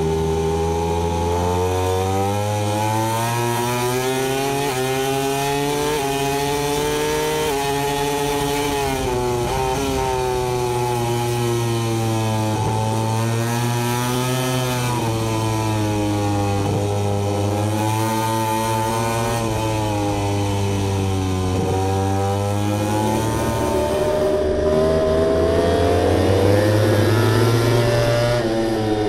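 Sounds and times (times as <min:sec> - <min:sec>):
racing motorcycle engines revving: 0:00.0 - 0:29.0.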